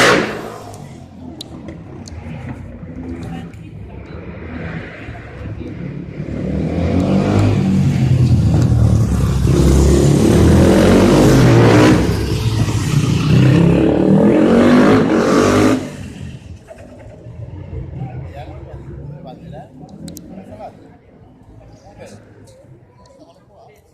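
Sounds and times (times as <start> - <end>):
motorcycle engines revving: 0.0 - 22.8.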